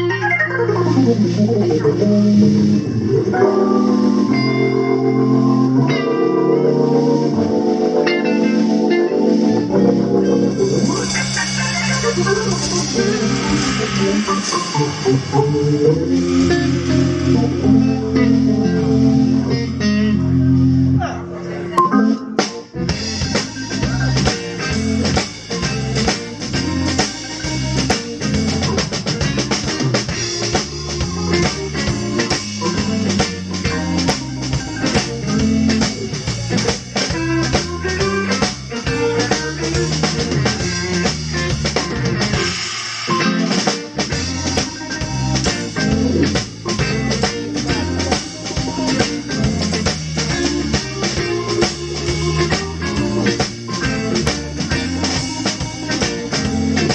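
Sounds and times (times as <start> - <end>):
drum kit steady beat: 0.0 - 21.0, 21.8 - 56.9
electric guitar: 0.0 - 56.9
organ: 0.0 - 56.9.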